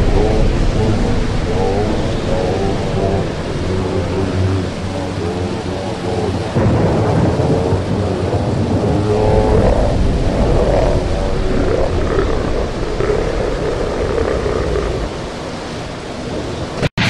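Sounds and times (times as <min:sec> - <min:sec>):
rain: 0:00.0 - 0:16.9
thunder rumbling: 0:00.0 - 0:16.9.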